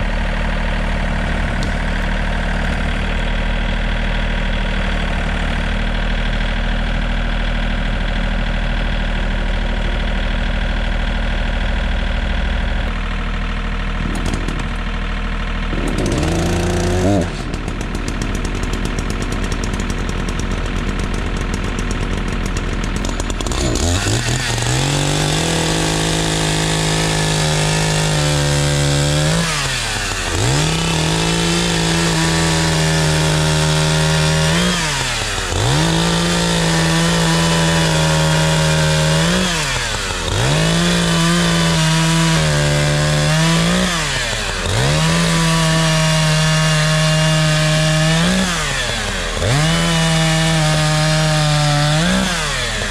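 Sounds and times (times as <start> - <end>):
chainsaw cutting logs: 0.0 - 13.0, 13.6 - 52.9.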